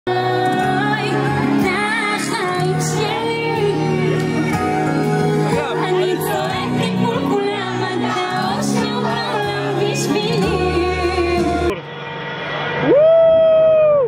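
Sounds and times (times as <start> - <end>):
woman singing: 0.1 - 11.7
live pop band playing: 0.1 - 11.8.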